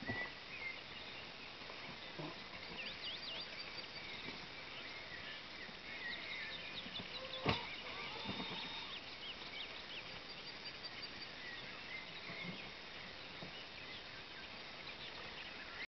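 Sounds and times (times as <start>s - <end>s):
birds chirping: 0.0s - 15.9s
outdoor hiss: 0.0s - 15.9s.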